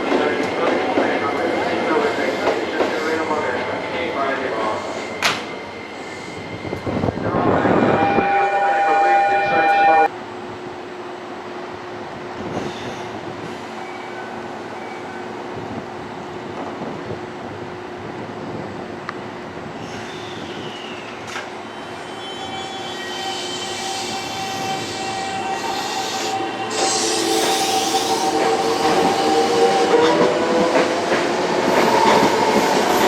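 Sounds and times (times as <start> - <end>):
electric train rail noise: 0.0 - 33.0.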